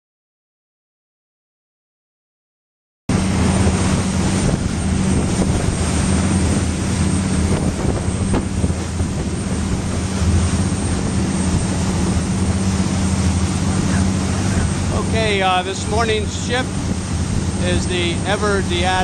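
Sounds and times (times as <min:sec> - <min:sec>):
boat engines droning: 0:03.1 - 0:19.0
spray rushing off hull: 0:03.1 - 0:19.0
wind: 0:03.1 - 0:19.0.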